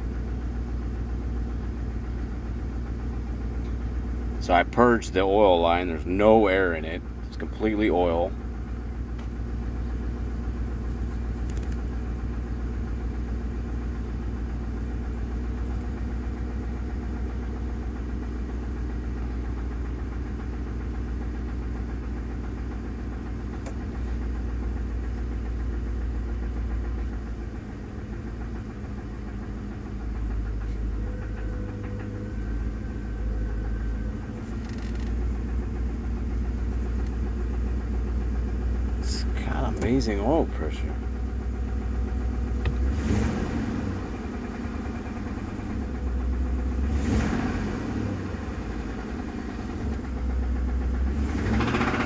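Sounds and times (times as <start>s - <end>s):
engine idling: 0.0s - 52.0s
engine knocking: 0.0s - 52.0s.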